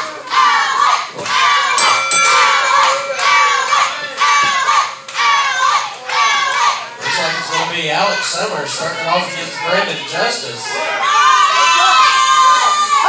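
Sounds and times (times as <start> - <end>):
children shouting a chant: 0.0 - 13.0.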